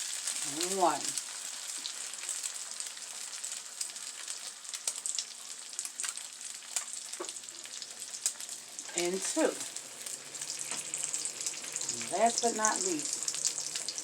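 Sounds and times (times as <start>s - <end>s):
french toast sizzling in a pan: 0.0s - 14.0s.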